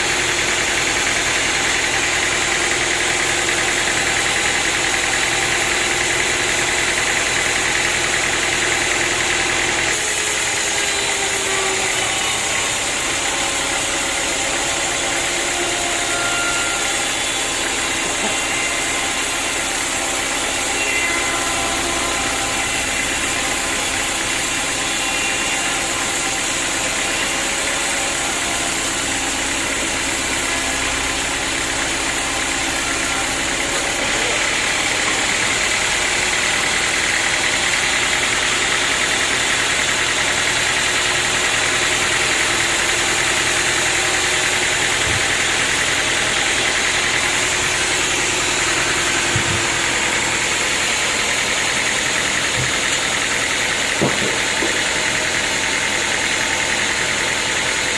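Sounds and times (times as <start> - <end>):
sawmill machinery cutting wood: 0.0 - 57.9.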